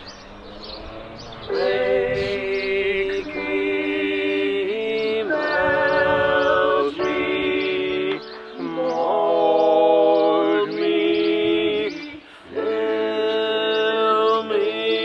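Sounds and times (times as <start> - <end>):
quiet music: 0.0 - 15.0
person singing long notes: 1.5 - 15.0.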